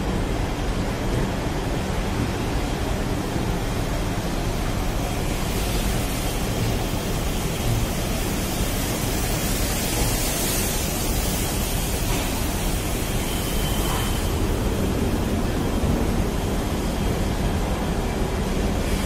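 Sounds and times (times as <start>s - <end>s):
train coaches rolling: 0.0s - 19.0s.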